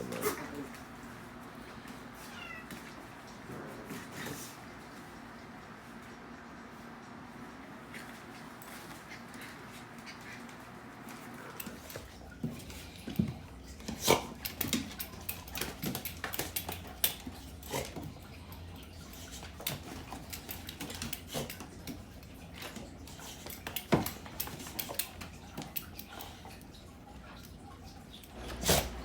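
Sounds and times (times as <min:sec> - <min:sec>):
small dogs playing: 0:00.0 - 0:29.0.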